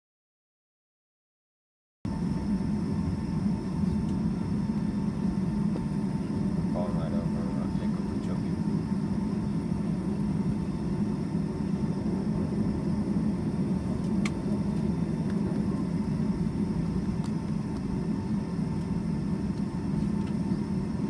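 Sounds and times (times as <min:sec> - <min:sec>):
aircraft cabin rumble: 0:02.1 - 0:21.0
faint steady whine: 0:02.1 - 0:21.0.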